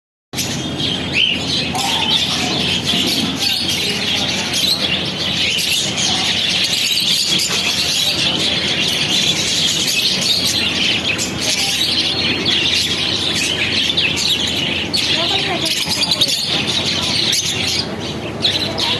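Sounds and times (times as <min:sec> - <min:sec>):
small birds chirping: 0:00.4 - 0:18.9.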